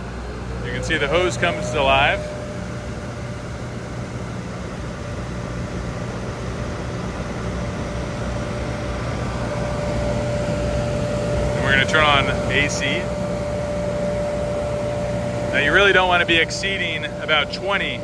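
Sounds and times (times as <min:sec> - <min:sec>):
air conditioning cart droning: 0:00.0 - 0:18.0.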